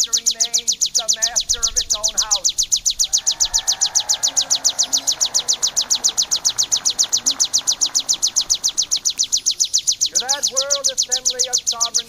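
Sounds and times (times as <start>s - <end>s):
bird chirping rapidly: 0.0s - 12.0s.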